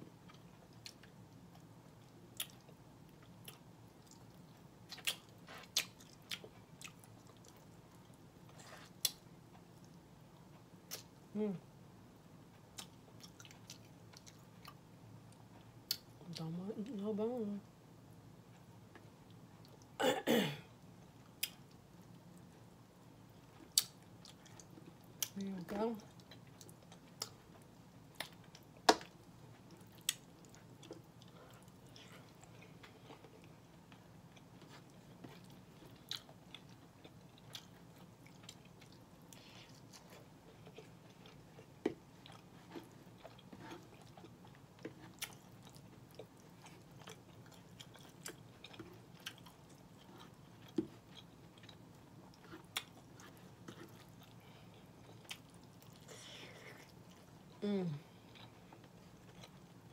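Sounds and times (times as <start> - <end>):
person chewing soft food: 0.0 - 11.3, 12.4 - 16.4, 20.8 - 25.4, 26.0 - 59.9.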